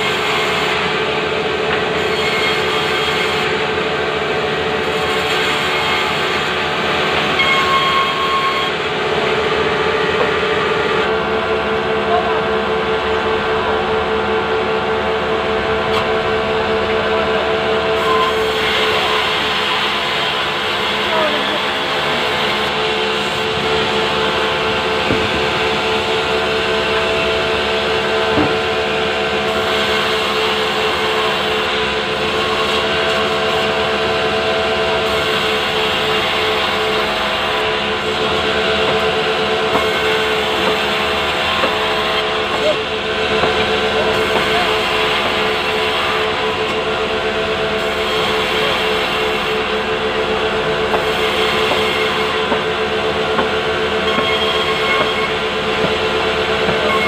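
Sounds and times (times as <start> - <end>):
band saw cutting a log: 0.0 - 13.8, 14.8 - 57.0.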